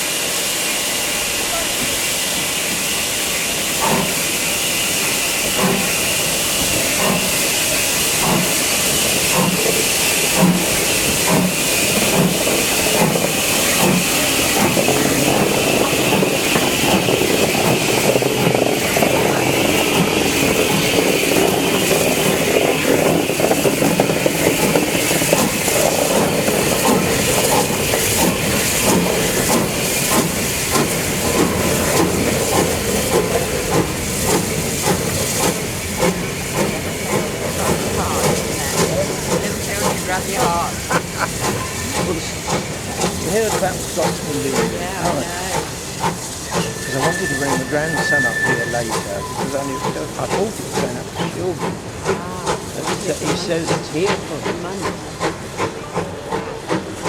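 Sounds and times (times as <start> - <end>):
hiss of steam: 0.0 - 57.0
steam locomotive exhaust beats: 0.0 - 57.0.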